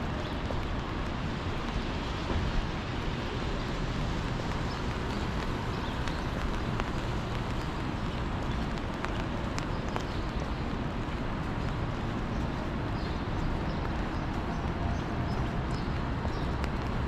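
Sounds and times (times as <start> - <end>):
rain: 0.0 - 17.0
wet city street noise: 0.0 - 17.0.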